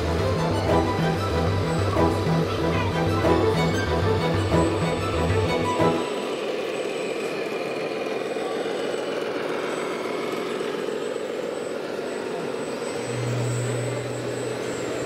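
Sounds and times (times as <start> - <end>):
diesel engine sound through small speaker: 0.0 - 15.0.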